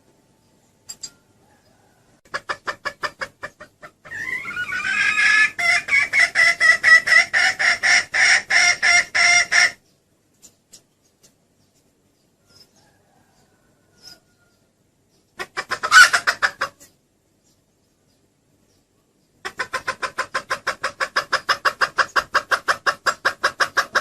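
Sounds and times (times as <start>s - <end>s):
hen clucking and calling: 0.9s - 24.0s.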